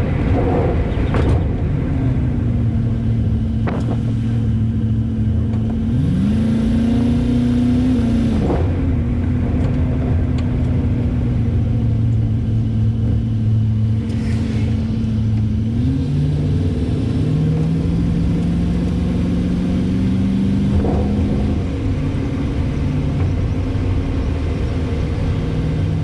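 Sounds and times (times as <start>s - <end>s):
pickup truck engine running: 0.0s - 26.0s.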